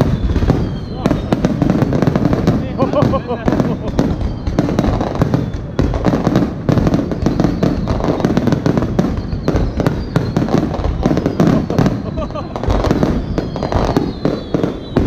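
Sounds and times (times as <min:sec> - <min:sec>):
fireworks bursting with crackle: 0:00.0 - 0:15.0.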